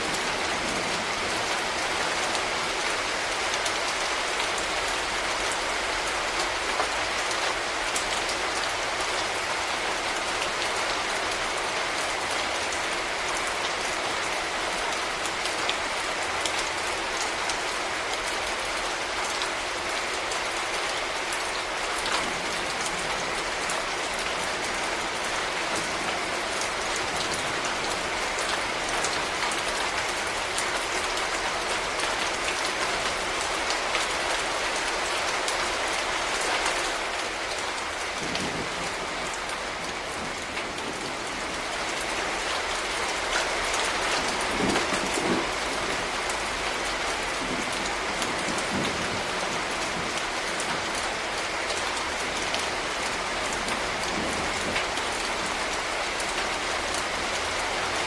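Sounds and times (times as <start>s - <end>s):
rain spattering on hard surfaces: 0.0s - 58.0s.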